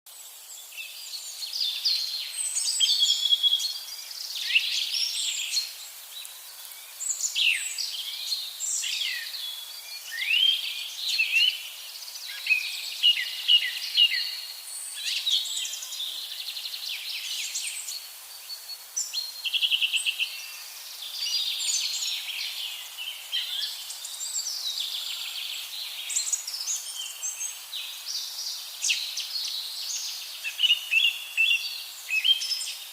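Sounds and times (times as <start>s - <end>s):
songbirds singing and chirping: 0.1s - 32.9s.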